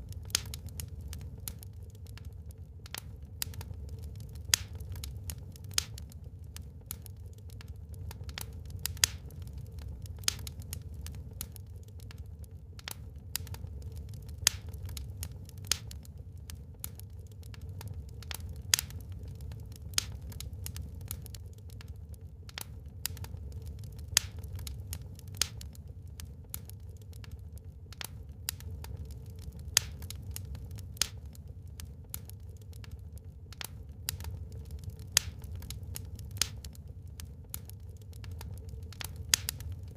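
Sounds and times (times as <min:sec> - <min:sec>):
logs crackling in a fireplace: 0:00.0 - 0:39.9.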